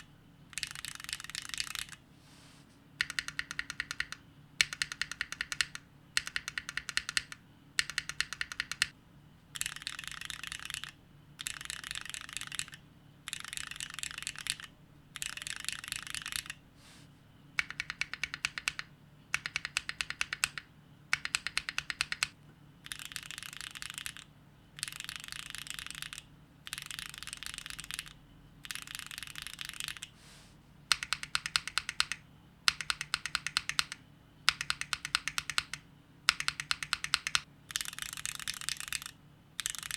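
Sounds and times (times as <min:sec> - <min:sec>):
mechanical keyboard keystrokes: 0:00.5 - 0:02.0, 0:03.0 - 0:08.9, 0:09.6 - 0:16.6, 0:17.6 - 0:30.1, 0:30.9 - 0:39.9.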